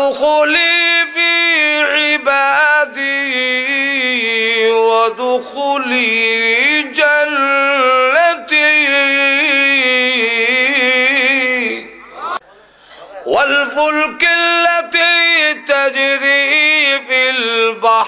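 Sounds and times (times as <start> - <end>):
man chanting melodically: 0.0 - 12.2, 13.2 - 18.0.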